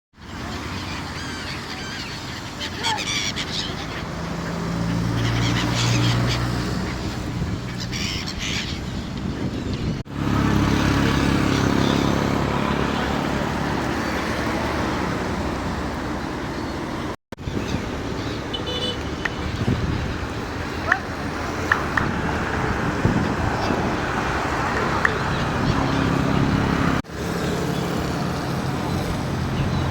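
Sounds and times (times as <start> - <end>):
gulls calling: 0.2 - 29.9
traffic rumble: 0.2 - 29.9.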